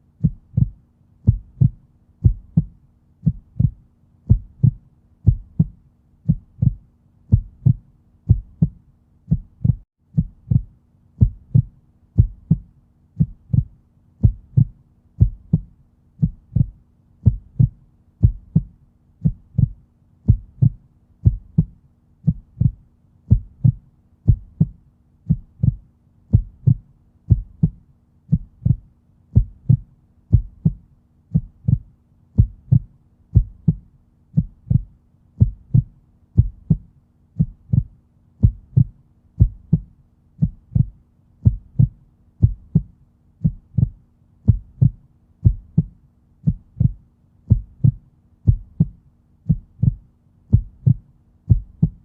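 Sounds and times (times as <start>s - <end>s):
heartbeat lub-dub: 0.0s - 52.0s.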